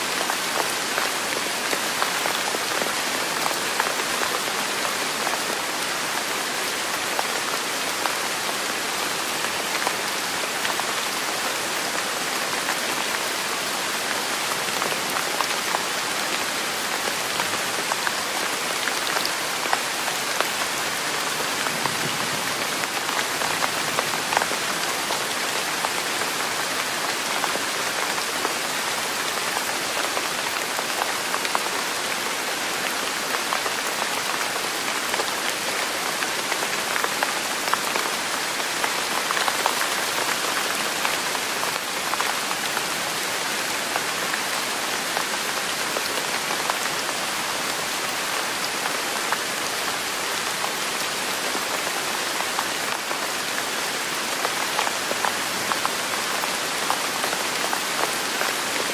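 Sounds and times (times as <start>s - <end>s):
rain on a hard surface: 0.0s - 58.9s.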